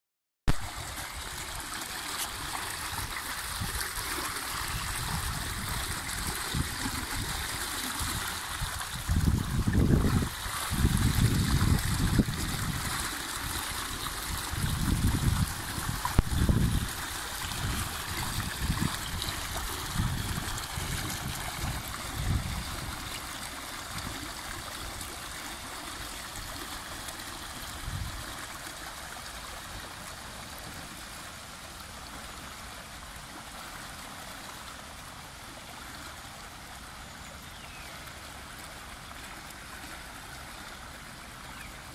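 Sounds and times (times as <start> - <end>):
water rushing and splashing: 0.5 - 41.9.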